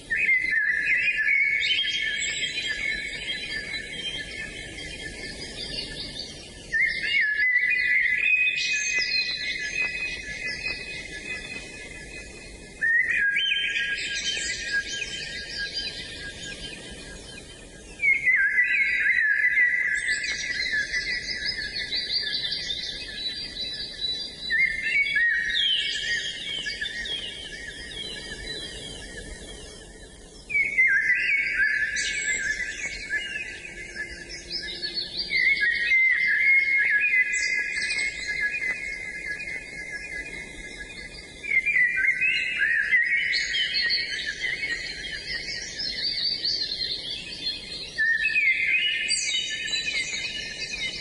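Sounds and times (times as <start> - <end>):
songbirds singing: 0.0 - 51.0.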